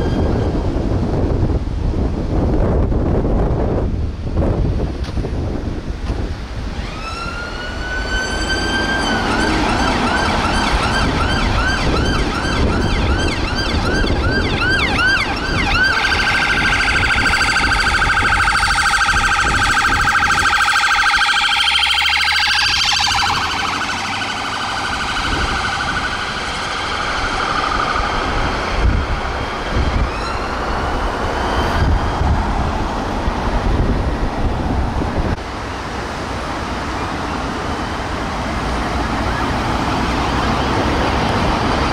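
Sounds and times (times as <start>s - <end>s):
emergency vehicle siren: 0.0s - 1.6s, 6.6s - 41.9s
road traffic noise: 0.0s - 41.9s.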